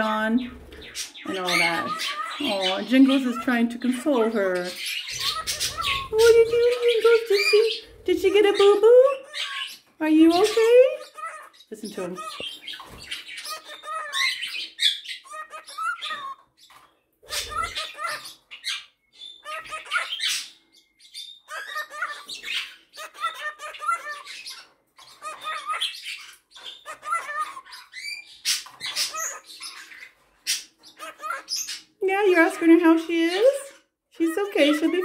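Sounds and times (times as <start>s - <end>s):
cockatiel chattering and warbling: 0.1s - 20.6s, 21.2s - 33.1s.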